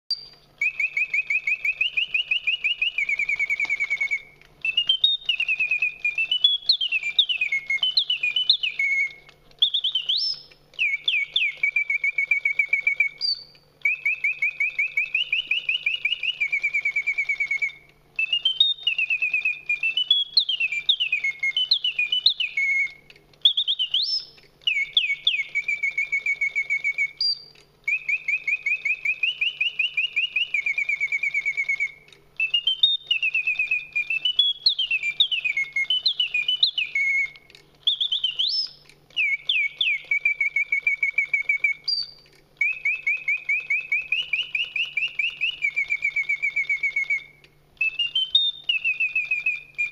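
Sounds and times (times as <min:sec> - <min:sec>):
mechanical bird whistling: 0:00.1 - 0:49.9.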